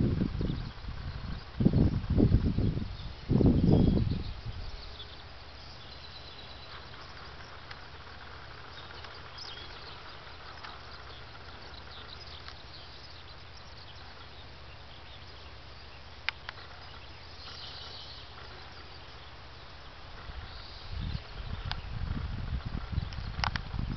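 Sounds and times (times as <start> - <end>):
low steady rumble: 0.0 - 23.9.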